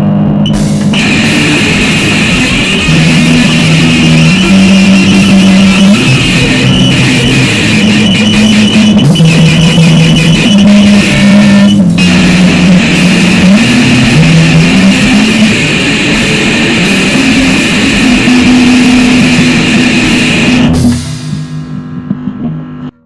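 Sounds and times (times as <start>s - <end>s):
heavily distorted music: 0.5s - 22.8s.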